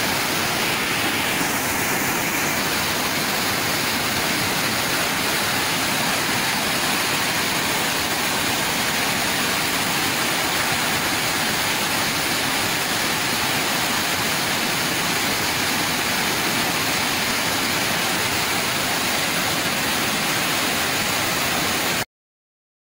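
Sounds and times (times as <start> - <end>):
floodwater rushing: 0.0 - 22.0
heavy rain falling: 0.0 - 22.0.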